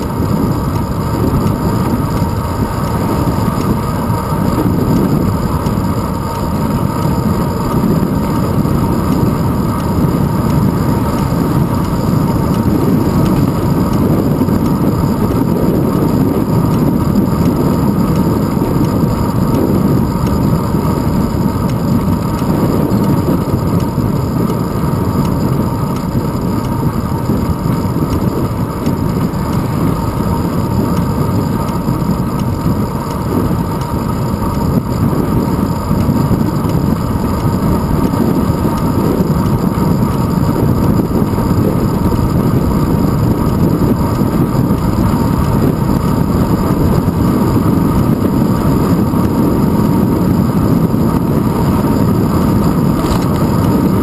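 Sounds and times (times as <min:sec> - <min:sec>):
bicycle road rumble: 0:00.0 - 0:54.0
wind buffeting microphone: 0:00.0 - 0:54.0.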